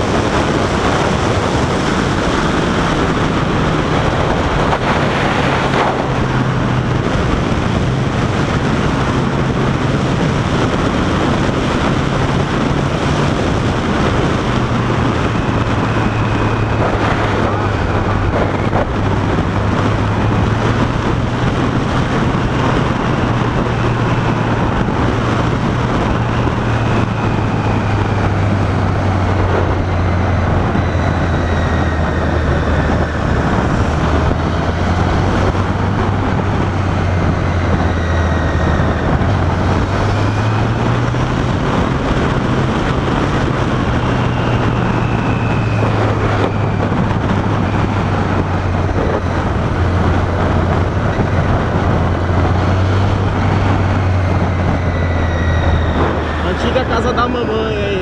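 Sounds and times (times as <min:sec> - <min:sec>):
motorcycle engine droning: 0:00.0 - 0:58.0
wind and road noise: 0:00.0 - 0:58.0.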